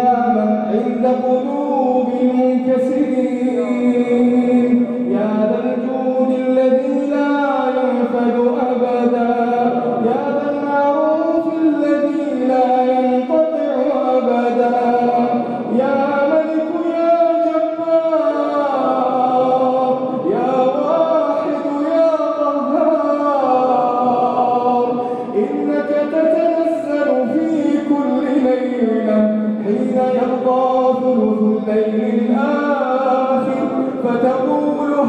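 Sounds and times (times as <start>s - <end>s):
person chanting melodic prayer: 0.0s - 35.0s.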